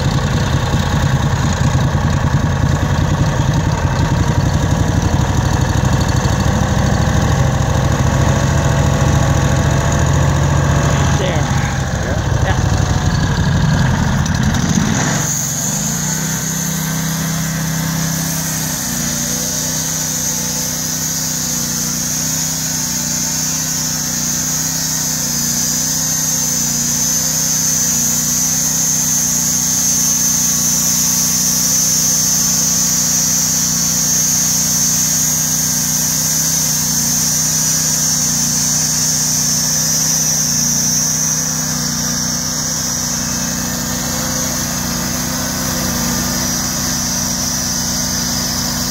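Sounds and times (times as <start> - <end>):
bandsaw mill engine running: 0.0 - 48.9.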